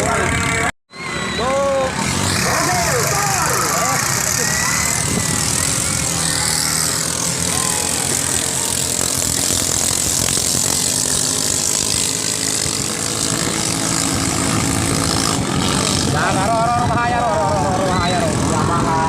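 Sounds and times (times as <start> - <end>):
boat engines running: 0.0 - 19.0.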